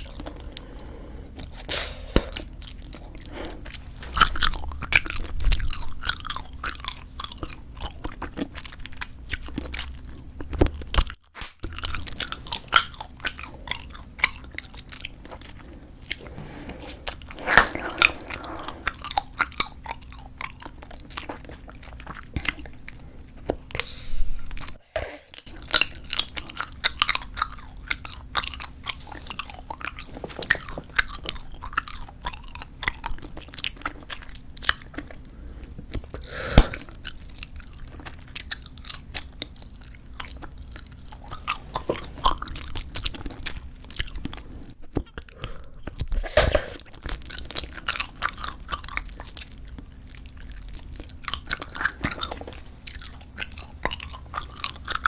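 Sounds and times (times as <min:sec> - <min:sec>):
chewing bubble gum: 0:00.0 - 0:23.9, 0:25.4 - 0:55.0.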